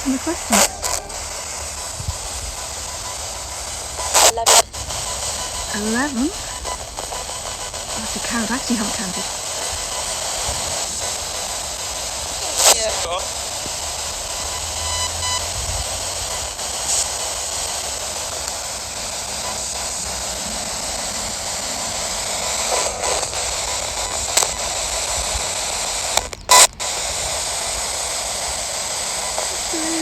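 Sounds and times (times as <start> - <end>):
radio static hiss: 0.0 - 30.0
snippets of radio station audio: 0.0 - 30.0.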